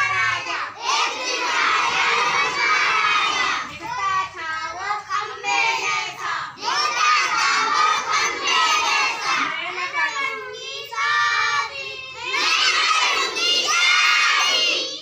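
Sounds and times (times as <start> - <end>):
few voices singing: 0.0 - 9.5, 10.1 - 15.0
children chanting in unison: 0.0 - 15.0.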